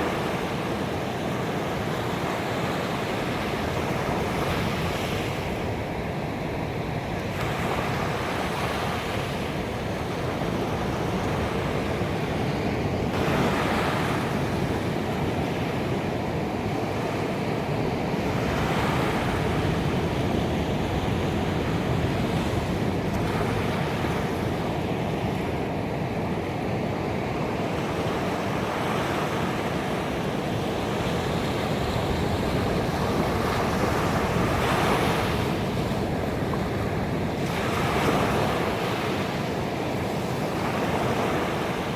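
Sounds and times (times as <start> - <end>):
waves breaking on a beach: 0.0 - 41.9.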